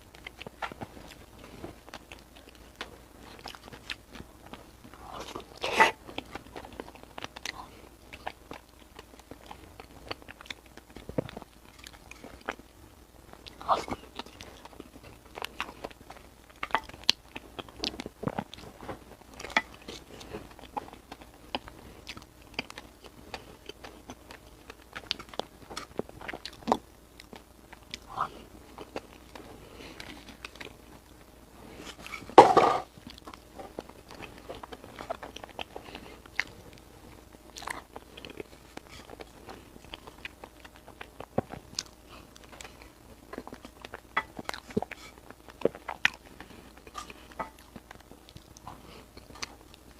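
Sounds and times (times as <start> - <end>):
close chewing and biting: 0.0 - 49.9.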